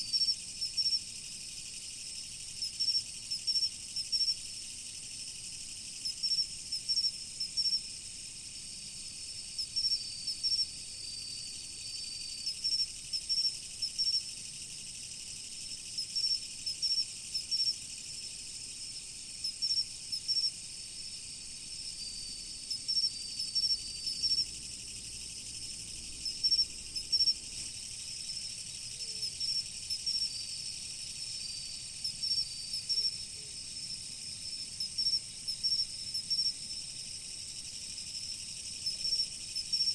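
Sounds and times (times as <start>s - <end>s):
cricket chirping in short clusters: 0.0s - 39.9s
cricket trill: 0.0s - 39.9s
high insect chorus ringing: 0.0s - 39.9s.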